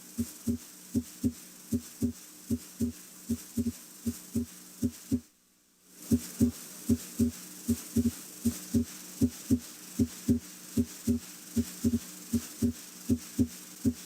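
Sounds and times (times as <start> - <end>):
heartbeat through stethoscope: 0.0 - 5.3, 6.1 - 14.0.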